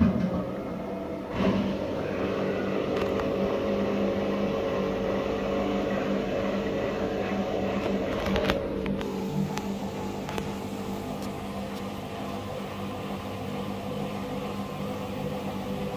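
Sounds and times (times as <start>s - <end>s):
washing machine spinning: 0.0s - 15.9s.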